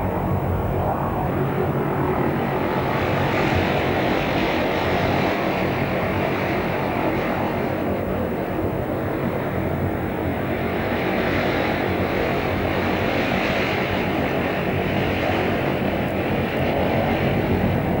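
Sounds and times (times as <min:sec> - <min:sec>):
propeller aircraft engine drone: 0:00.0 - 0:18.0.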